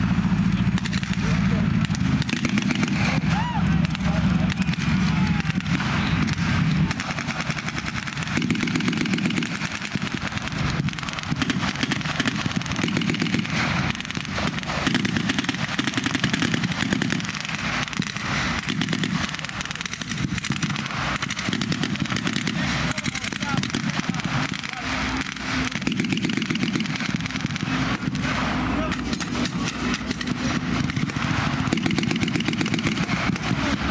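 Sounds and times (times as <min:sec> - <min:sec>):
tank engines running: 0:00.0 - 0:33.9
automatic gunfire: 0:00.7 - 0:33.9.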